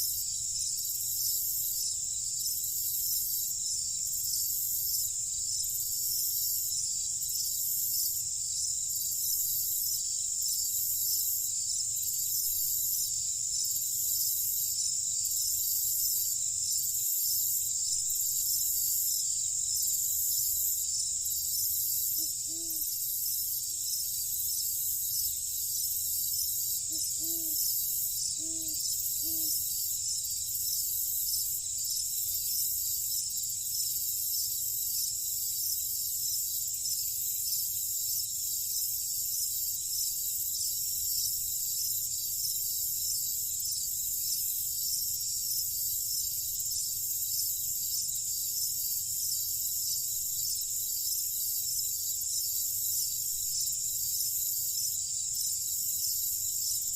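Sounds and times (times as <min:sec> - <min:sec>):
night insects trilling: 0:00.0 - 0:56.9.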